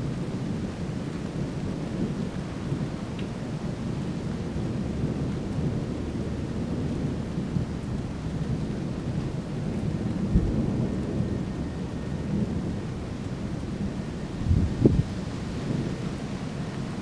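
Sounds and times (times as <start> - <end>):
rain hissing: 0.0 - 17.0
thunder rumbling: 0.0 - 17.0.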